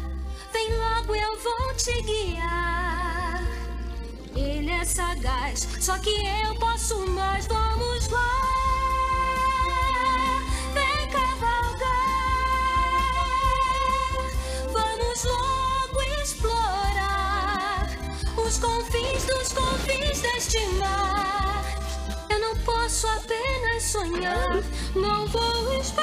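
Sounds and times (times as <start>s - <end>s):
instrumental backing: 0.0s - 26.0s
woman singing with vibrato: 0.0s - 26.0s.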